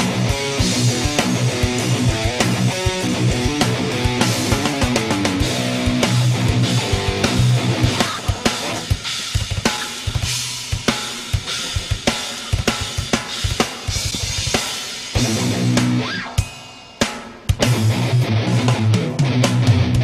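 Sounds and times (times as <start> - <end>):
electric guitar: 0.0 - 16.5, 17.6 - 20.0
drum kit beat: 0.0 - 20.0.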